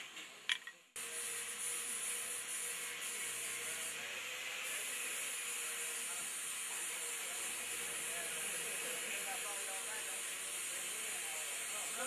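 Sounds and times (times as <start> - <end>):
steady hiss: 1.0 - 12.0.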